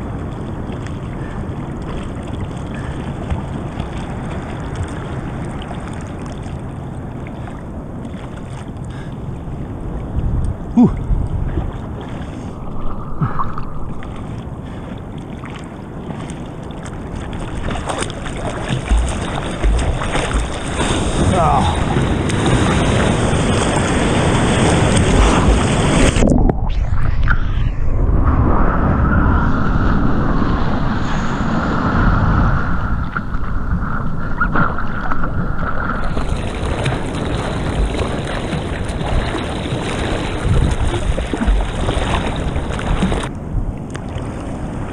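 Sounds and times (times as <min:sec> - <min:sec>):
water sloshing and lapping: 0:00.0 - 0:26.6, 0:33.0 - 0:44.9
wind on microphone: 0:00.0 - 0:44.9.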